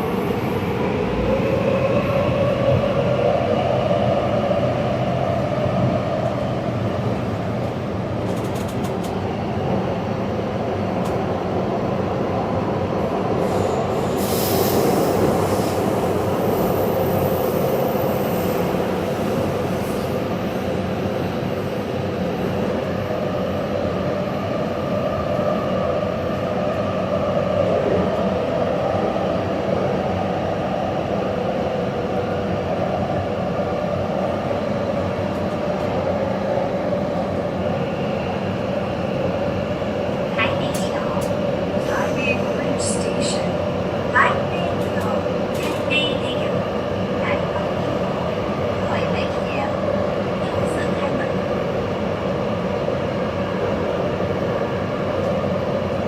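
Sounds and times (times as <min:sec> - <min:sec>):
train rumbling along track: 0:00.0 - 0:56.0.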